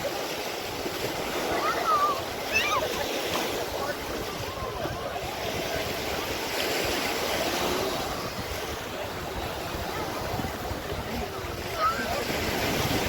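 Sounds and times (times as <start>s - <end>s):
faint voices: 0.0s - 13.0s
sea waves washing onto beach: 0.0s - 13.0s.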